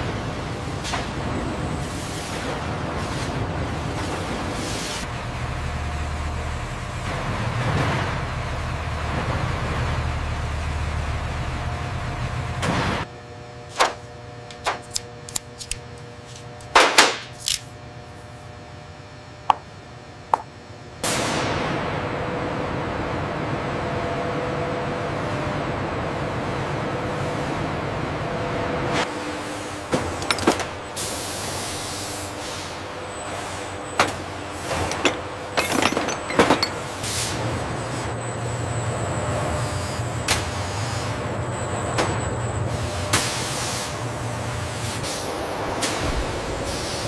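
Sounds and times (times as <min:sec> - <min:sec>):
steady machine hum: 0:00.0 - 0:47.0.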